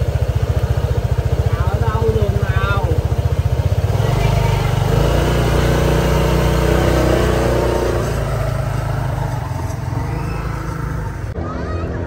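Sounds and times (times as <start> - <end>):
scooter engine pulling away: 0.0 - 12.0.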